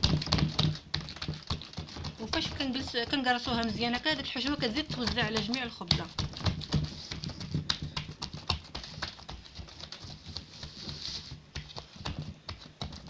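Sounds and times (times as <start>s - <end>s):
hands patting dough: 0.0s - 13.0s.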